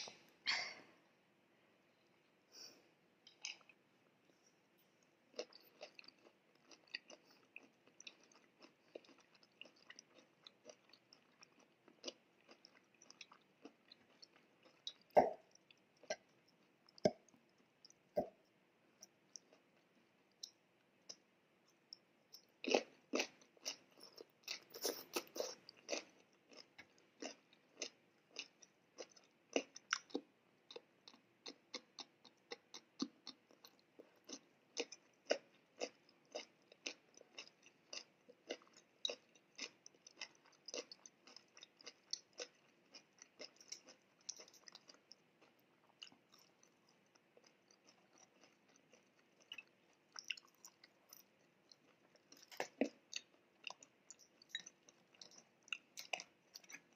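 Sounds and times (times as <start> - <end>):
chewing corn kernels: 5.3 - 18.4, 21.8 - 56.9.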